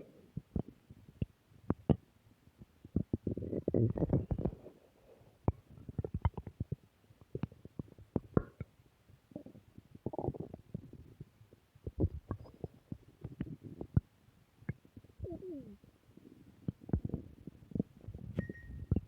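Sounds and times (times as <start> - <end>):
stomach gurgling: 0.0 - 19.0.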